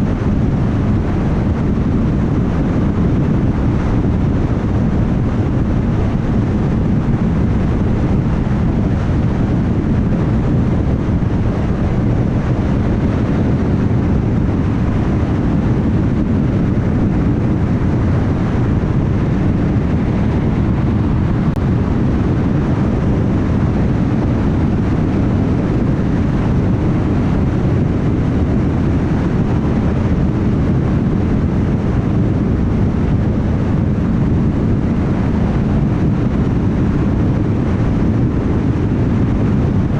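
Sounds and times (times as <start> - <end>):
tyres humming on road: 0.0 - 39.9
wind noise: 0.0 - 39.9.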